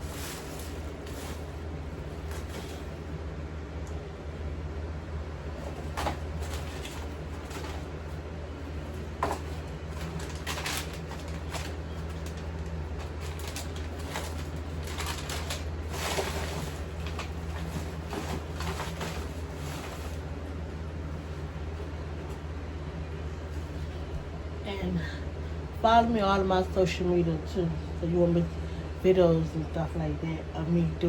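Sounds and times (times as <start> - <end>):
rustling and shuffling of clutter: 0.0 - 25.0
steady low hum: 0.0 - 31.0.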